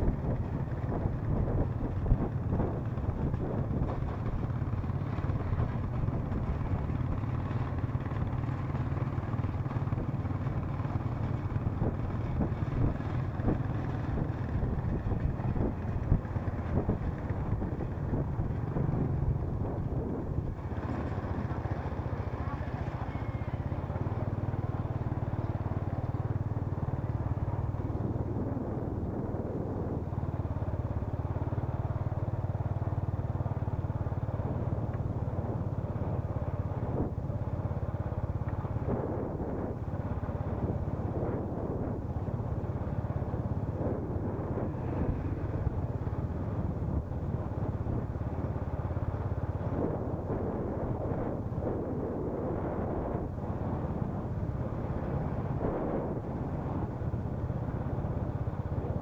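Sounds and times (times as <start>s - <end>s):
road rumble: 0.0s - 59.0s
small motorbike engine running: 0.0s - 59.0s
wind on microphone: 0.0s - 59.0s.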